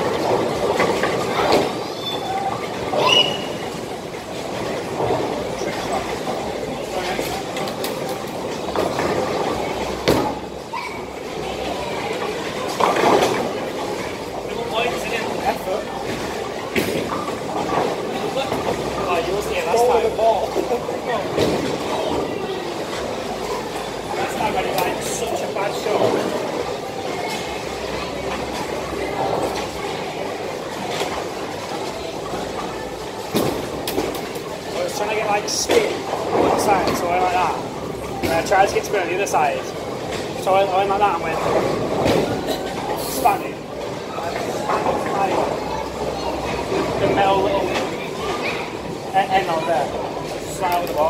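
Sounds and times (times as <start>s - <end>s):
bowling balls rolling: 0.0s - 51.0s.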